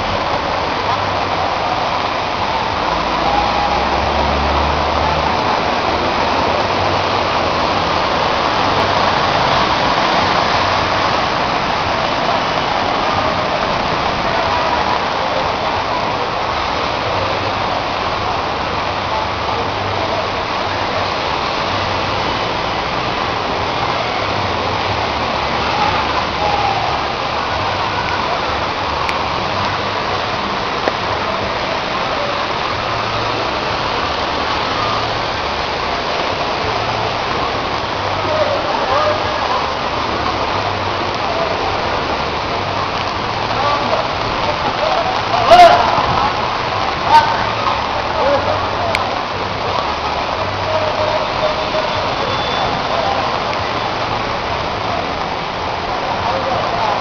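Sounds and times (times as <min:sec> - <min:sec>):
floodwater rushing: 0:00.0 - 0:57.0
heavy rain pouring: 0:00.0 - 0:57.0.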